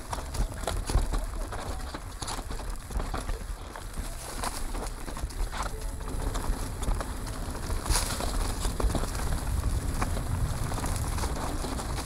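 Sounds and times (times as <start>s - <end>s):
bike chain and frame rattling: 0.0s - 12.0s
tyres crunching over dirt: 0.0s - 12.0s
wind rumbling on microphone: 0.0s - 12.0s.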